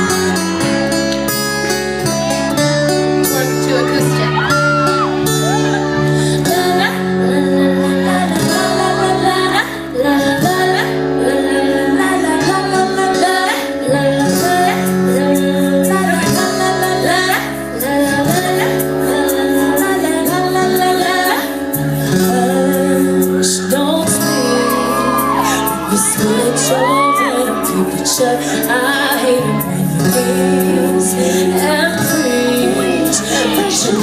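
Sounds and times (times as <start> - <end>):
female vocal group singing: 6.2 - 34.0.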